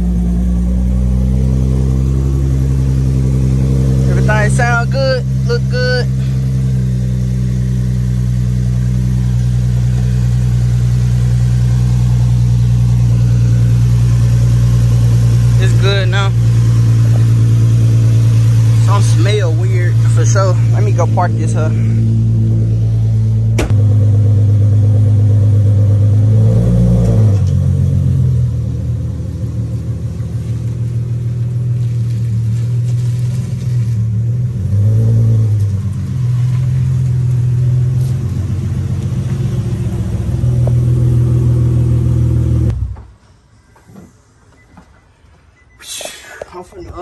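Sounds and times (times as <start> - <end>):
car engine at low revs: 0.0 - 43.2.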